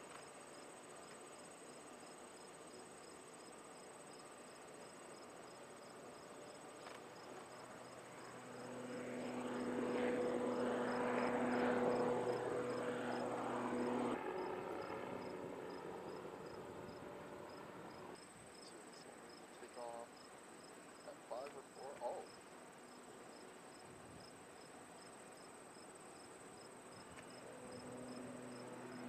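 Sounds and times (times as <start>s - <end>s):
crickets chirping: 0.0s - 29.0s
propeller engine droning overhead: 0.0s - 29.0s.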